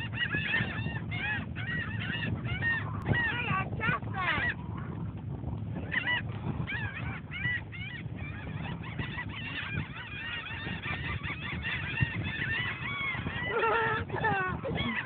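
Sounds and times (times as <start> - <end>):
flock of birds calling: 0.0 - 5.0, 5.8 - 15.0.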